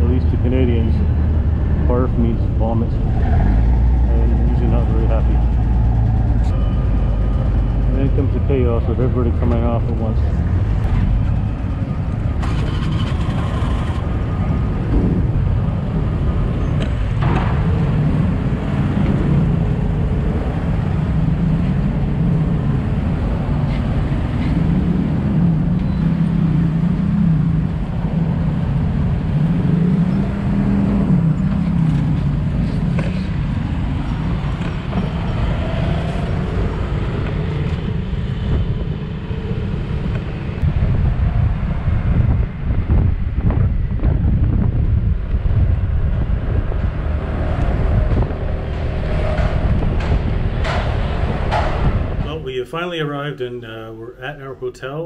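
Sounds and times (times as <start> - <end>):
vehicle engine humming: 0.0 - 53.0
low rushing noise: 0.0 - 54.7.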